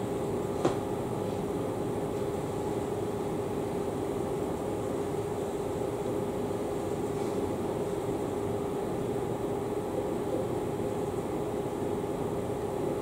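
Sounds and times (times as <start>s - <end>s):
room ventilation hum: 0.0s - 13.0s.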